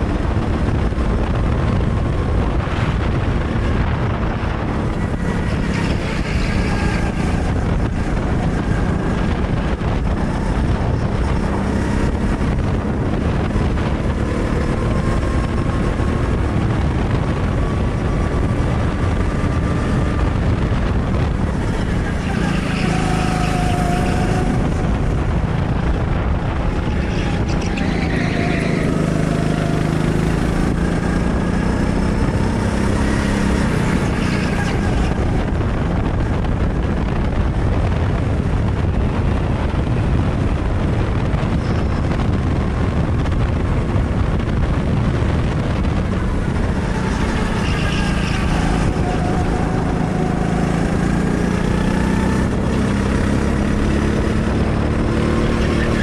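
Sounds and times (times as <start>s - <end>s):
go-kart engine revving: 0.0s - 56.0s
rush of noise: 0.0s - 56.0s.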